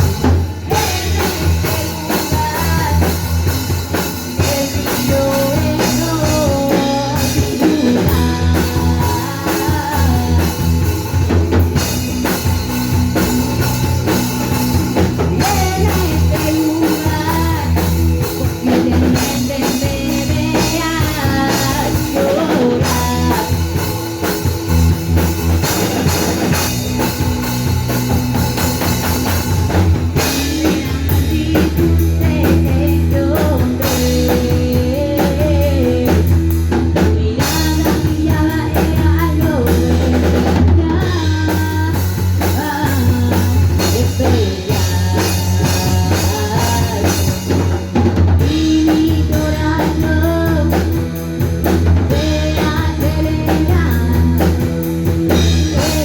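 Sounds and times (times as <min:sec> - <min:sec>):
rock band playing loudly: 0:00.0 - 0:56.0.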